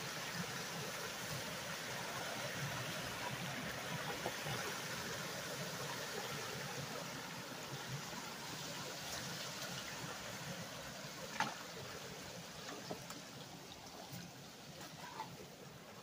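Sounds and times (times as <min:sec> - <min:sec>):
light rain: 0:00.0 - 0:16.0.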